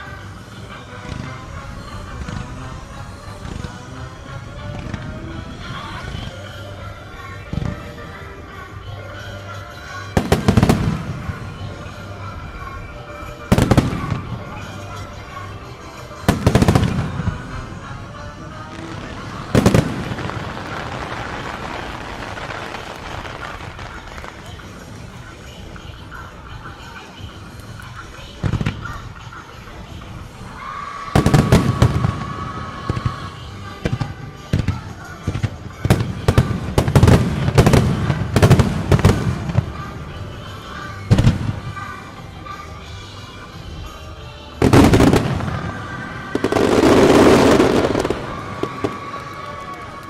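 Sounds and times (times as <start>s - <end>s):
fireworks bursting with sharp bangs: 0.0s - 8.8s, 10.1s - 42.1s, 43.6s - 50.0s
music: 0.0s - 50.0s
steady crowd and show noise: 0.0s - 50.0s.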